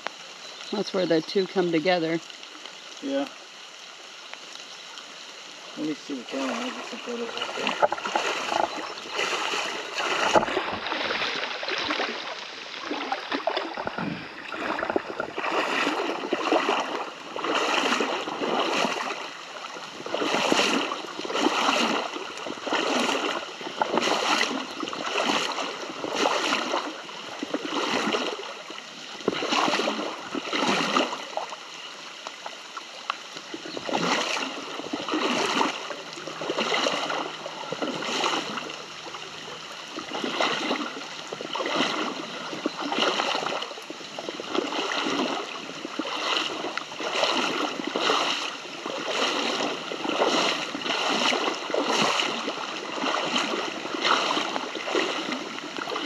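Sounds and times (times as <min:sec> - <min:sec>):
stream rushing: 0:00.0 - 0:56.0
footsteps splashing in water: 0:05.8 - 0:56.0.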